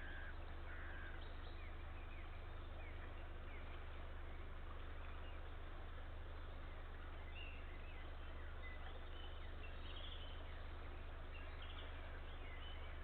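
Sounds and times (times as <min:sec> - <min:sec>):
constant low hum: 0:00.0 - 0:13.0
songbird chirps and trills: 0:00.0 - 0:13.0.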